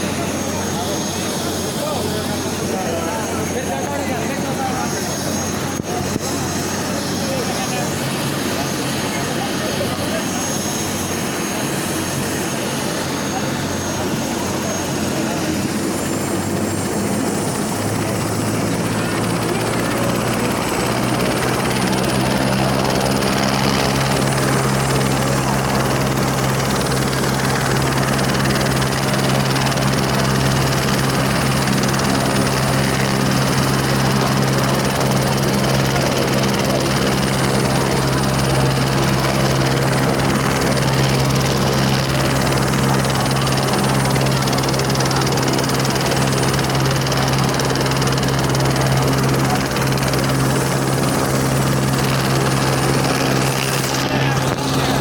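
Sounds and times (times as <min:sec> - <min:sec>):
helicopter rotor and engine hum: 0:00.0 - 0:55.0.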